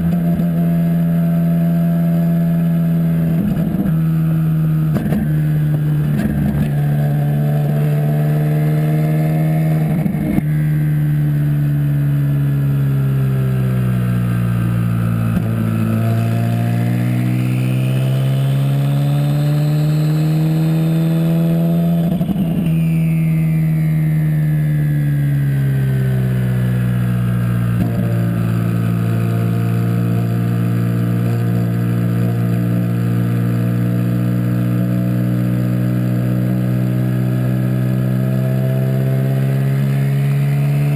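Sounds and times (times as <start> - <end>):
car engine revving: 0.0 - 24.4, 25.0 - 40.9
high turbo whine: 0.0 - 40.9.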